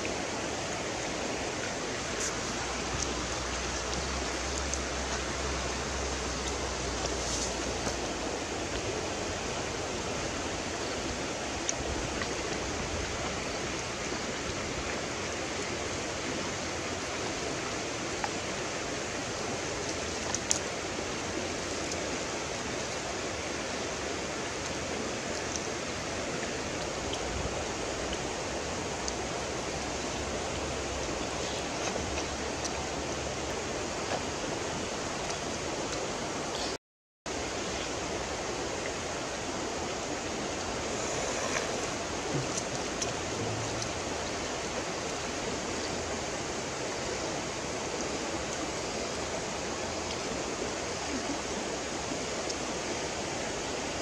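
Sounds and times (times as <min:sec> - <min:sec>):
river flowing over stones: 0:00.0 - 0:54.0.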